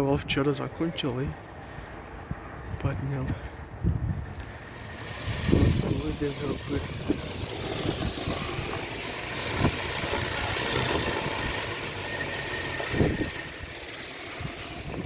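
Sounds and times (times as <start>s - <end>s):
wind gusting and roaring: 1.2s - 15.0s
wind turbine whine: 1.3s - 15.0s.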